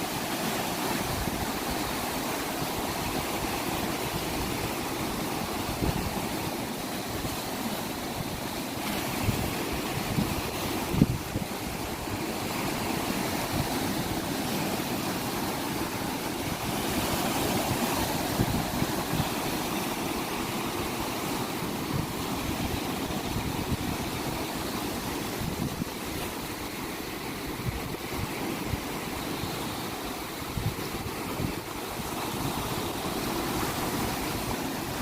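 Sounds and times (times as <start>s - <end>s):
sea waves and surf: 0.0s - 35.0s
wind buffeting microphone: 0.8s - 35.0s.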